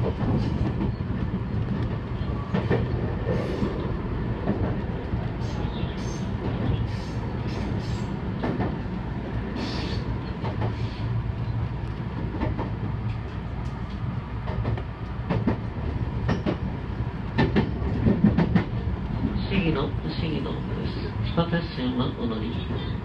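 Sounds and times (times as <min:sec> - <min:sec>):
clacks over rail joints: 0:00.0 - 0:19.4
train wheels rumbling on track: 0:00.0 - 0:23.0.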